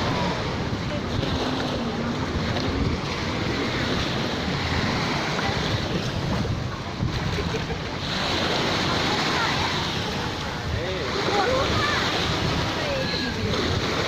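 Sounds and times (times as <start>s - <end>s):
sea surf washing onto beach: 0.0s - 14.0s
wind buffeting microphone: 0.0s - 14.0s.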